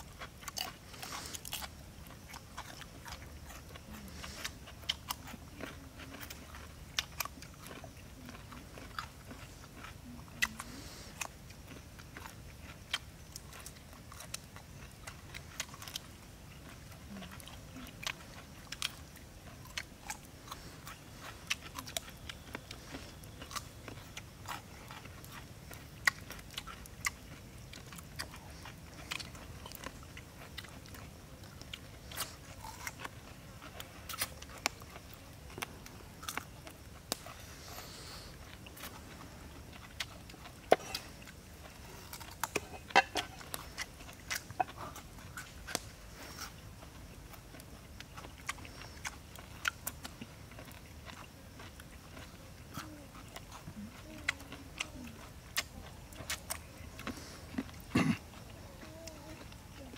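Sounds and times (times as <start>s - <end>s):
person chewing tripe: 0.0s - 59.9s.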